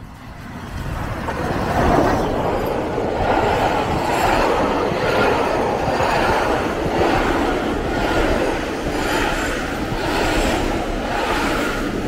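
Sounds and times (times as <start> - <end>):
steam train passing: 0.0 - 12.0.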